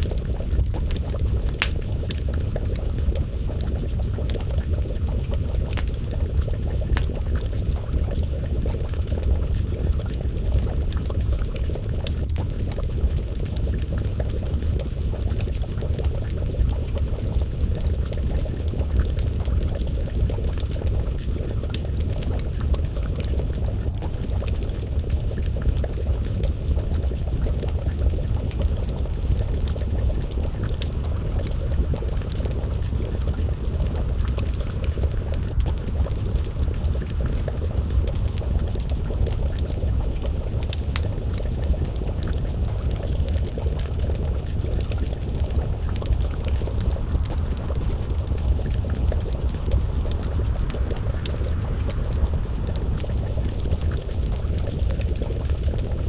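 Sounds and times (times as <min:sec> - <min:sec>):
stew bubbling in a pot: 0:00.0 - 0:56.0
wood fire crackling and popping: 0:00.0 - 0:56.0.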